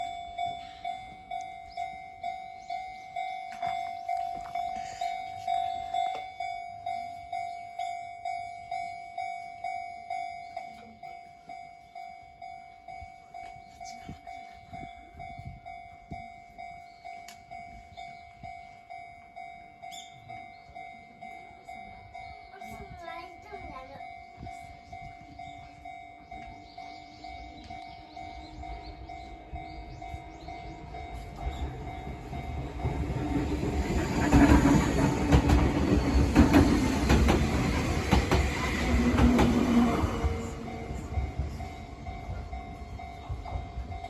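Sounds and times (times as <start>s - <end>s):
level crossing warning bell: 0.0s - 44.0s.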